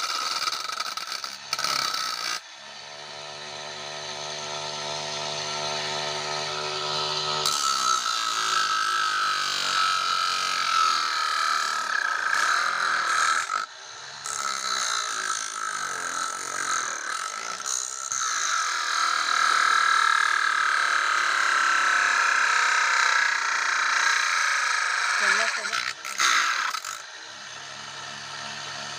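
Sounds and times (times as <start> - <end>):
angle grinder whine: 0.0 - 28.9
grinder disc grinding material: 0.0 - 28.9.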